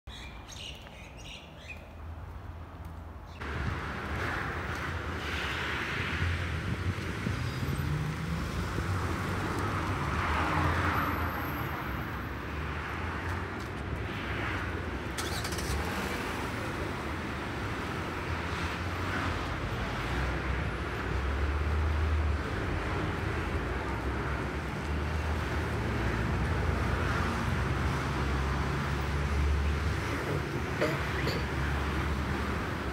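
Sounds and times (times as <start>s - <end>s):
road traffic: 0.1s - 32.9s.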